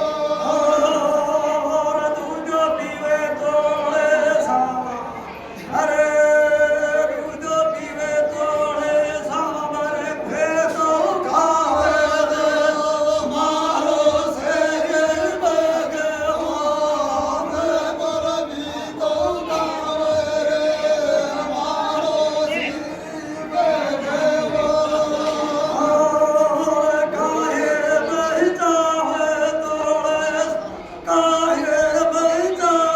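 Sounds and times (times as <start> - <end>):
men singing in chorus: 0.0 - 32.9.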